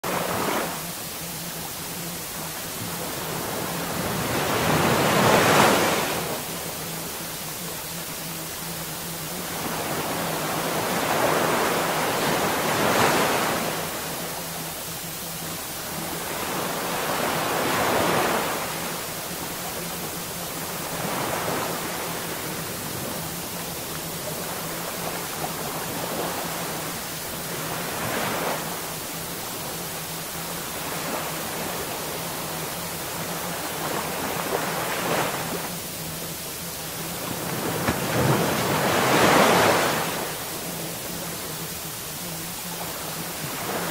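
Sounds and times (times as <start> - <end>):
ocean surf wave noise: 0.0 - 43.9.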